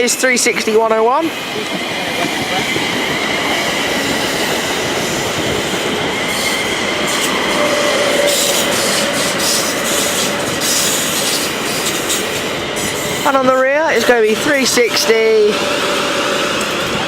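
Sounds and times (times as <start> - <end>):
train rolling noise: 0.0 - 17.0
high squeal from train wheels: 2.5 - 17.0.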